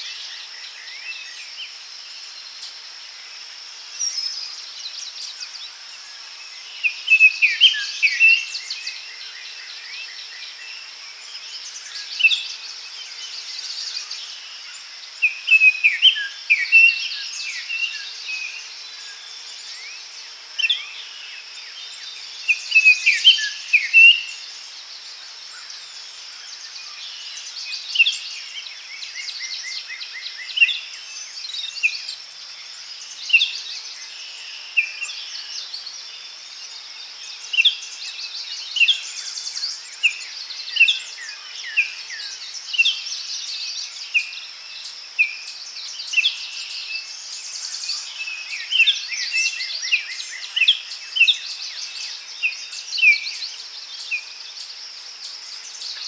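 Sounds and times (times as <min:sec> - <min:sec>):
high insect drone: 0:00.0 - 0:56.0
songbirds chirping: 0:00.0 - 0:56.0.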